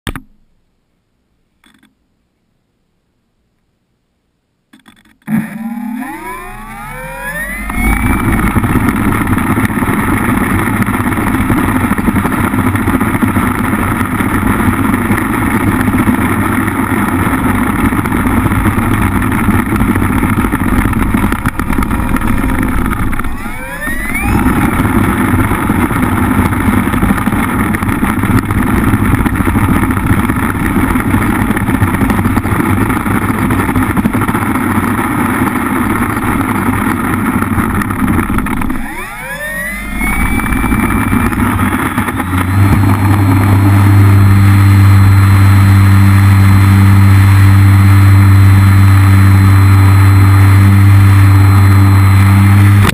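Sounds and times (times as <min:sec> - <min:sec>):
model plane motor and propeller: 0:04.8 - 0:52.9.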